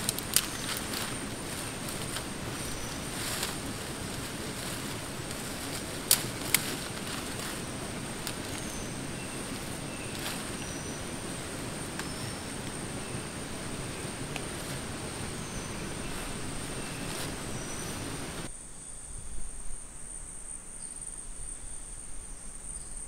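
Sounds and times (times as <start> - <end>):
dead leaves rustling: 0.0 - 18.5
dry branches snapping: 0.0 - 18.5
faint chirps: 0.0 - 19.1.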